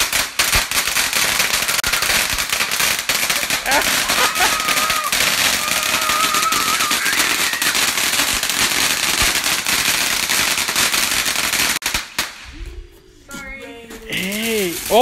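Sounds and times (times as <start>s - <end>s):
fireworks crackling and popping: 0.0s - 12.9s, 13.8s - 15.0s.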